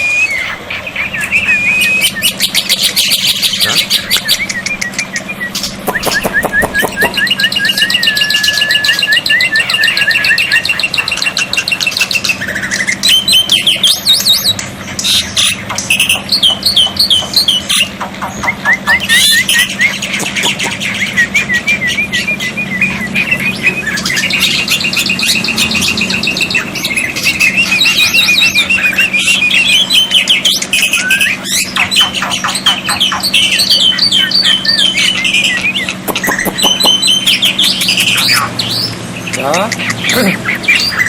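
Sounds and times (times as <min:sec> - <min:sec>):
bird calling in fast runs: 0:00.0 - 0:41.0.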